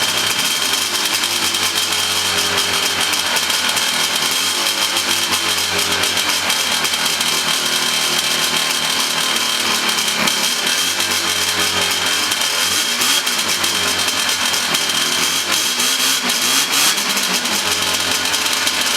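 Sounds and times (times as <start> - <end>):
snowmobile engine revving: 0.0 - 18.9.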